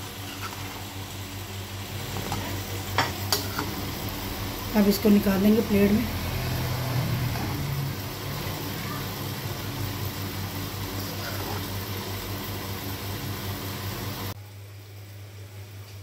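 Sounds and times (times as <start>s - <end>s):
fan or motor humming: 0.0s - 16.0s.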